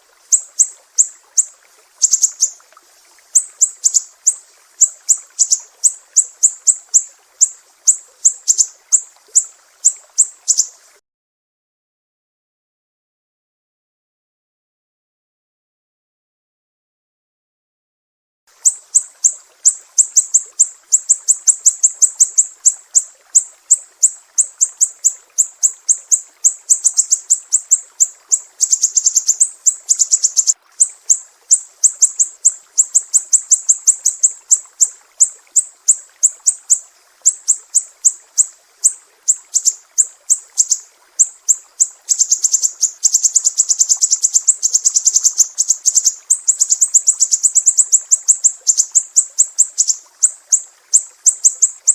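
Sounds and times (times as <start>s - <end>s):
bird singing high chirps and trills: 0.2s - 2.6s, 3.4s - 10.8s, 18.6s - 51.9s.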